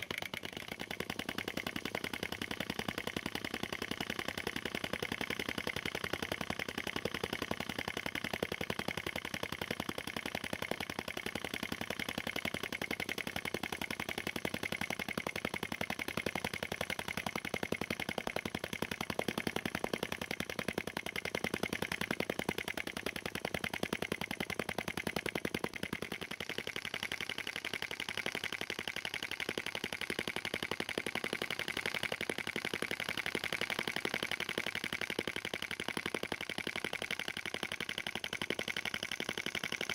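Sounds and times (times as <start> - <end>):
small engine clicking and popping: 0.0 - 39.9.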